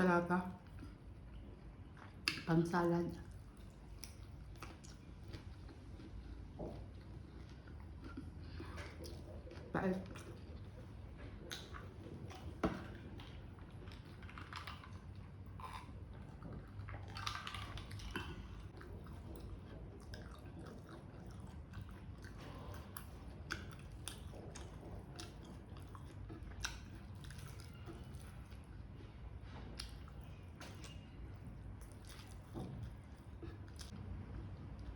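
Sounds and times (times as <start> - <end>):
person chewing food: 0.6 - 2.5, 3.2 - 34.9.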